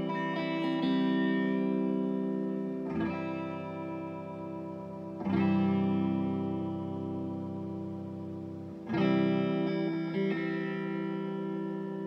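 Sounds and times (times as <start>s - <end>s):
electric guitar chords ringing: 0.0s - 12.0s.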